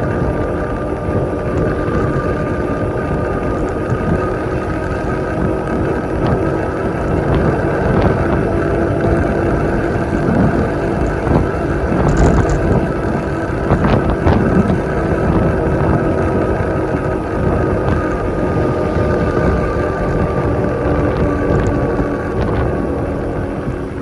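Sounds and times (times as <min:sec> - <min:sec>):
vehicle engine droning: 0:00.0 - 0:24.0
wind rushing over microphone: 0:00.0 - 0:24.0.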